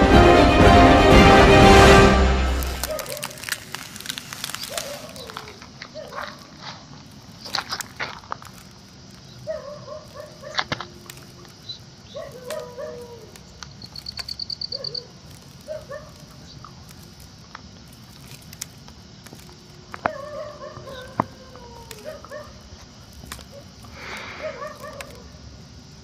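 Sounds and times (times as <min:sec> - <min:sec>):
run of high ticks: 0:02.6 - 0:25.3.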